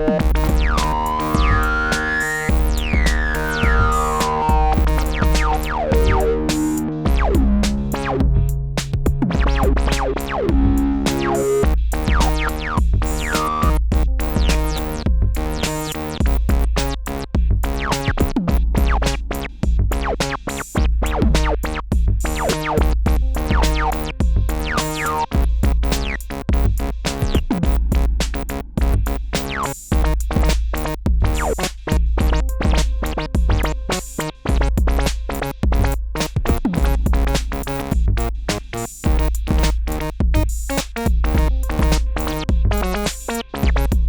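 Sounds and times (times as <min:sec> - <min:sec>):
kick drum beat: 0:00.0 - 0:44.0
synthesizer chords: 0:00.0 - 0:44.0.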